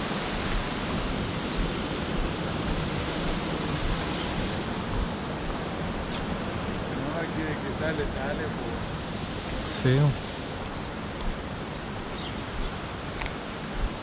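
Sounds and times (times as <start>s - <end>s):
flowing river rushing: 0.0s - 14.0s.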